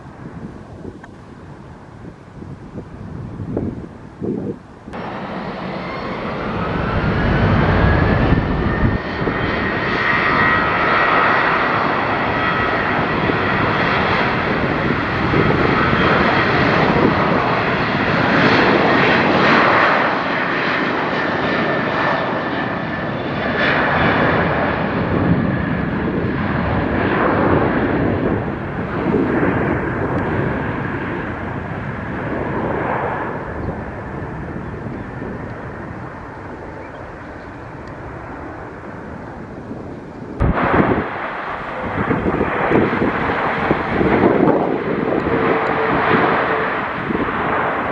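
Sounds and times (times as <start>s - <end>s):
jet engine roar: 0.0s - 47.9s
jet engine whine: 0.0s - 47.9s.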